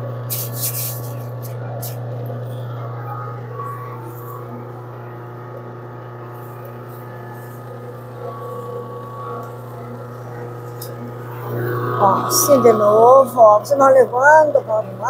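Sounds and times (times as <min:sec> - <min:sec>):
steady low hum: 0:00.0 - 0:15.0
faint steady tones: 0:02.5 - 0:15.0.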